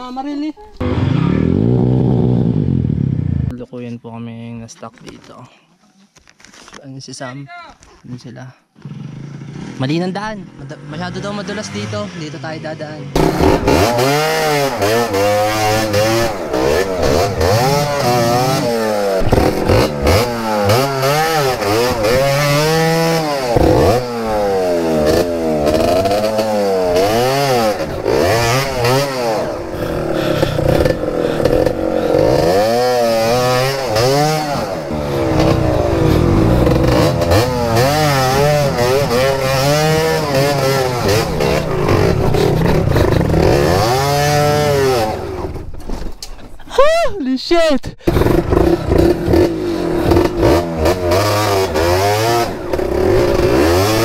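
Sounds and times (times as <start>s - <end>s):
two-stroke motorcycle engine revving: 0.8s - 3.5s, 8.8s - 45.7s, 48.0s - 54.0s.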